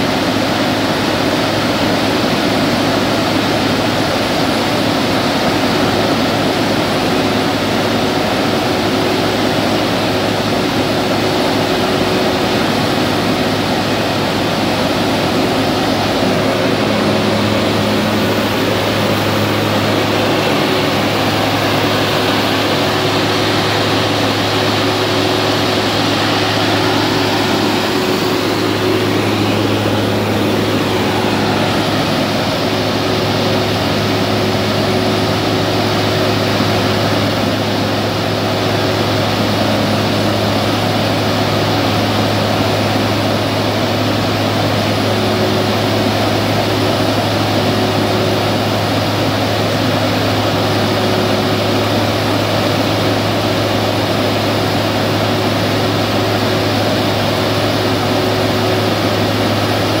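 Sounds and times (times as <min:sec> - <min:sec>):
floor grinder mechanical drone: 0:00.0 - 1:00.0.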